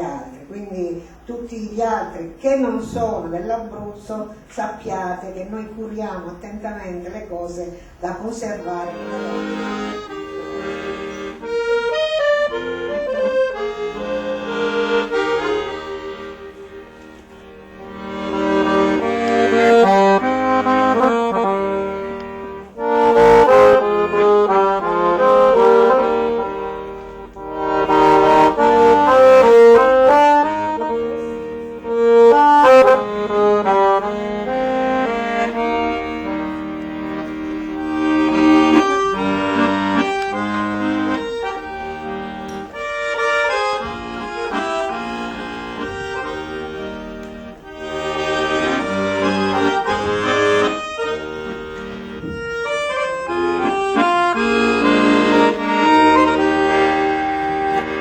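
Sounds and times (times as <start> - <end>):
instrumental music: 8.4 - 58.0.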